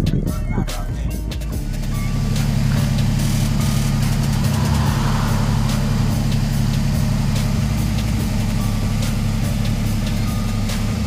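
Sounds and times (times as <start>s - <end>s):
car engine idling: 1.1s - 11.0s.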